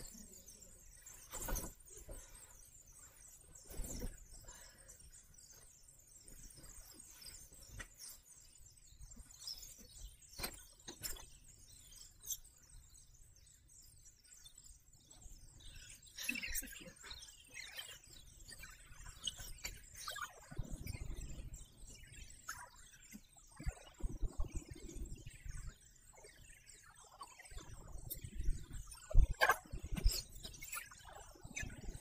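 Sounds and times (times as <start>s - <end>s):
faint high-pitched chirping: 0.0s - 32.0s.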